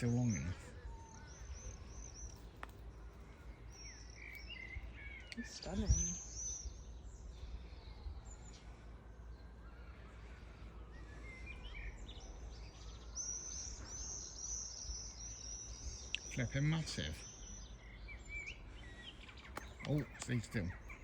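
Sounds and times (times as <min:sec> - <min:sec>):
small birds singing: 0:00.0 - 0:21.0.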